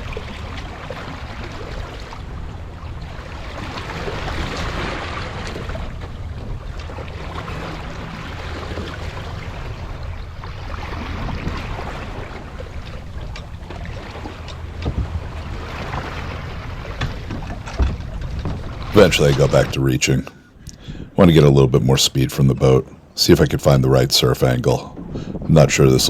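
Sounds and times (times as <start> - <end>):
wind rumble on microphone: 0.0 - 21.9, 23.8 - 26.0
water rushing along boat hull: 0.0 - 26.0.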